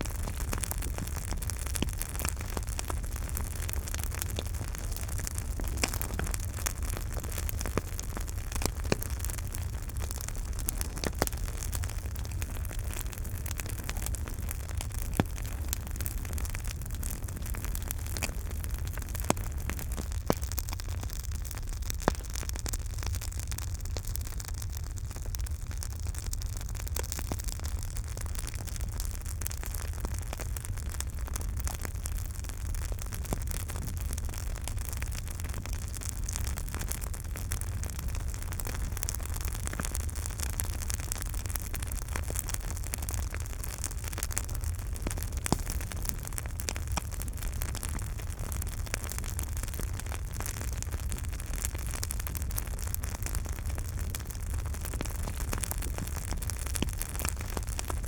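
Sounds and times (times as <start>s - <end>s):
sharp fire pops: 0.0s - 22.5s, 33.0s - 58.0s
campfire crackling: 0.0s - 58.0s.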